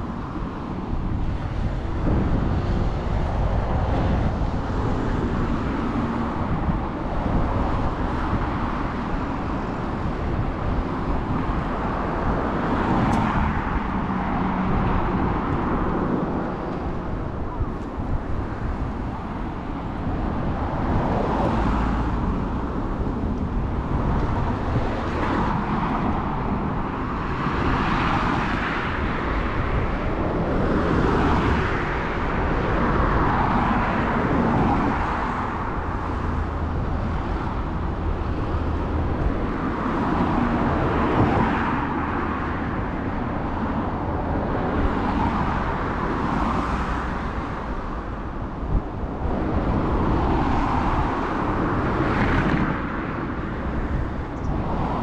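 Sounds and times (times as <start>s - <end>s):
cars passing: 0.0s - 55.0s
low traffic rumble: 0.0s - 55.0s.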